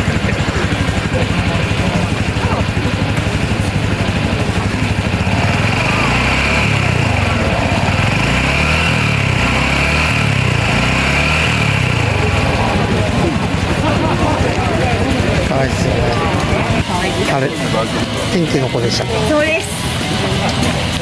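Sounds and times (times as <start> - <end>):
small motorcycle engine running: 0.0 - 21.0.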